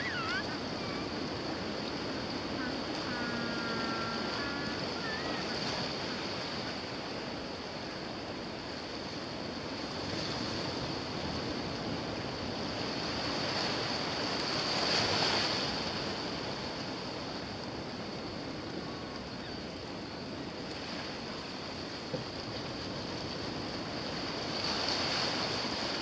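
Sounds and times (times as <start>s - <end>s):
surf washing on rocky shore: 0.0s - 26.0s.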